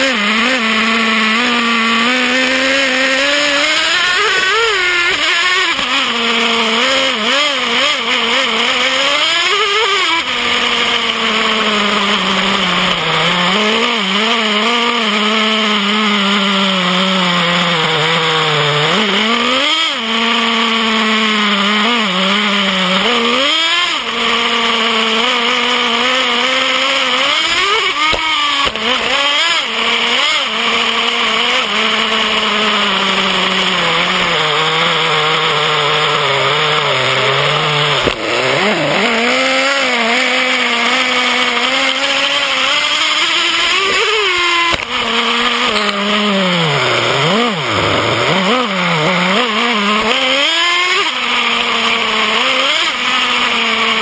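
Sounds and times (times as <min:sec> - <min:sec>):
model truck engine buzzing: 0:00.0 - 0:54.0.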